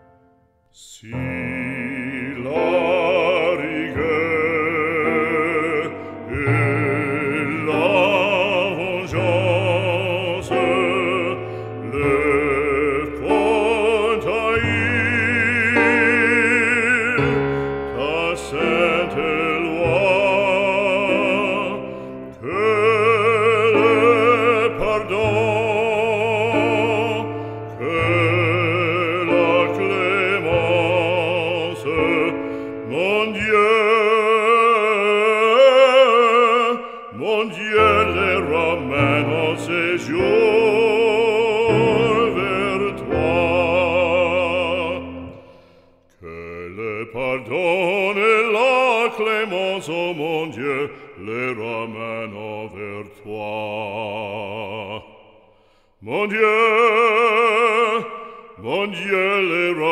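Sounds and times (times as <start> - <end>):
operatic voice singing: 0.7 - 59.9.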